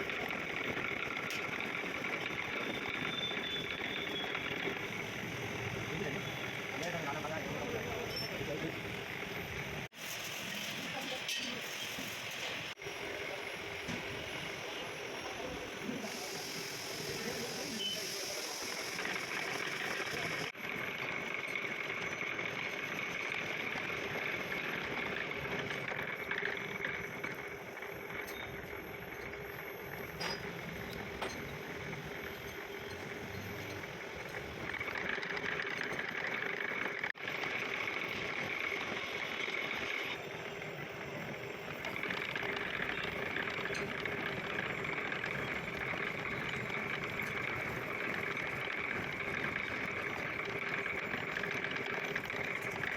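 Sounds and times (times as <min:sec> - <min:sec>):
machine tool humming and whining: 0:00.0 - 0:52.9.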